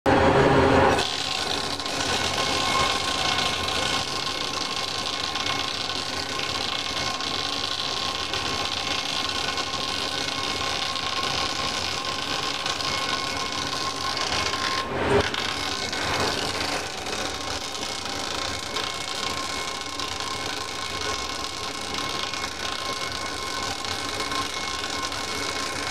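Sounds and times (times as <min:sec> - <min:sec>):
tyre cutting machine running: 0:00.1 - 0:25.9.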